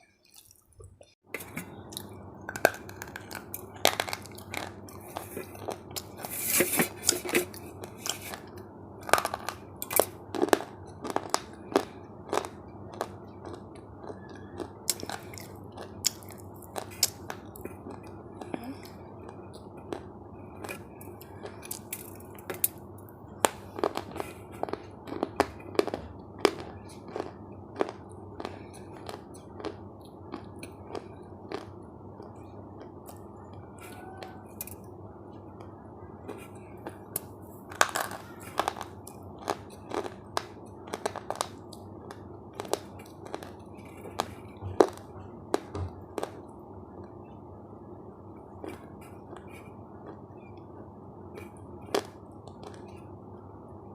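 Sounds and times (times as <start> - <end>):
chewing crunchy food: 0.0 - 46.6, 48.5 - 50.6, 51.3 - 53.1.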